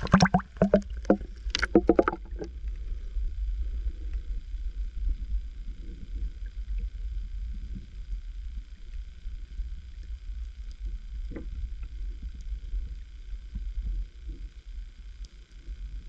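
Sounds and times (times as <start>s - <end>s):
muffled underwater water rumble: 0.0s - 16.0s.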